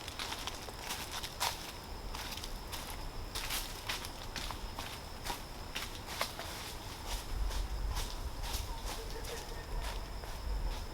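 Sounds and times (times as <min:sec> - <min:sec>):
footsteps on trail: 0:00.0 - 0:10.9.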